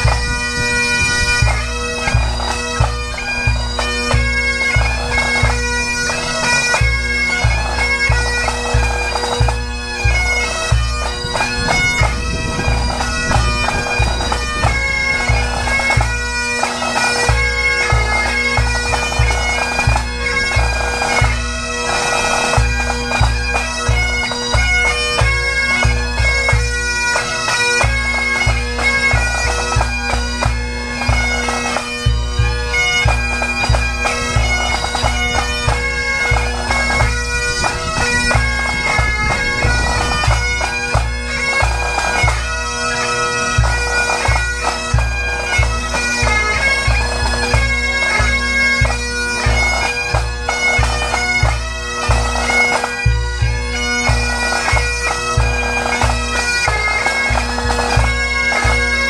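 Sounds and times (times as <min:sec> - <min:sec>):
bagpipes playing: 0:00.0 - 0:59.0.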